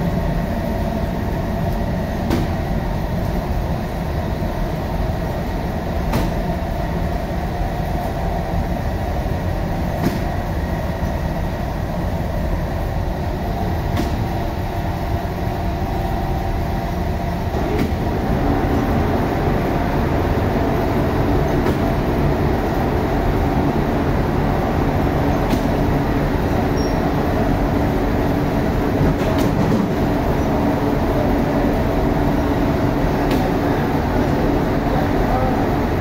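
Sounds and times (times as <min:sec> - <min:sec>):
bakery oven rumble and hum: 0:00.0 - 0:36.0.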